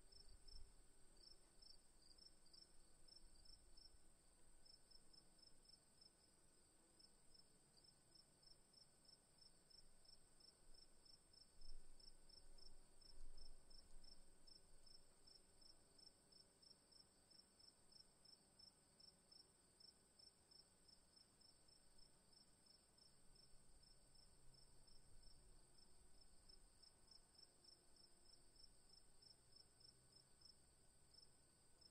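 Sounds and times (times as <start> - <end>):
insect chirping: 0.1 - 4.0, 7.3 - 31.9.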